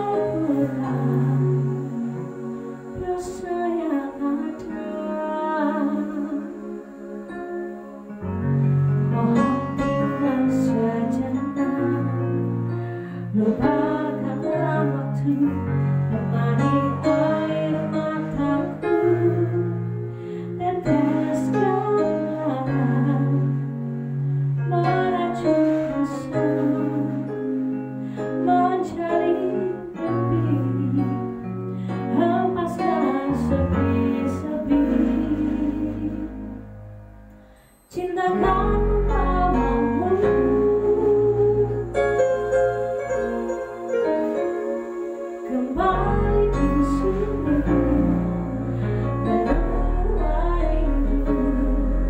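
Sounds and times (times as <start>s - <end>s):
woman singing: 0.0s - 7.8s, 9.2s - 12.6s, 13.3s - 23.7s, 24.6s - 27.6s, 28.3s - 36.6s, 37.9s - 52.0s.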